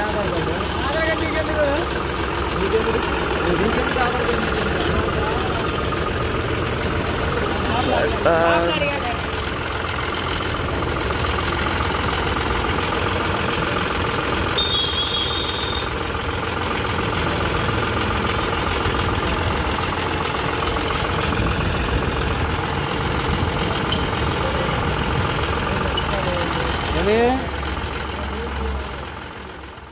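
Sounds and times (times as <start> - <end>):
tractor diesel engine idling: 0.0 - 29.9.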